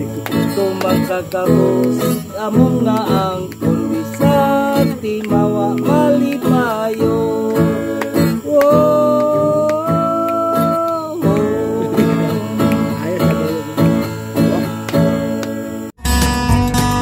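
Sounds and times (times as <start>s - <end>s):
person singing folk song: 0.0s - 15.9s
acoustic guitar strumming: 0.0s - 17.0s.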